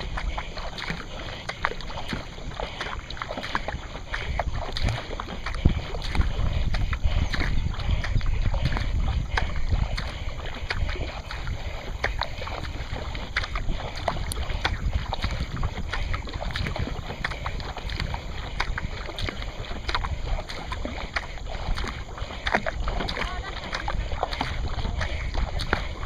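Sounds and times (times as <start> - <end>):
water splashing on kayak hull: 0.0 - 26.0
wind rumble on microphone: 0.0 - 26.0.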